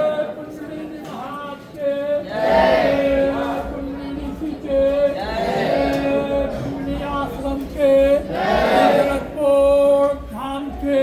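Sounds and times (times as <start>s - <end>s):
group singing devotional chant: 1.8s - 11.0s.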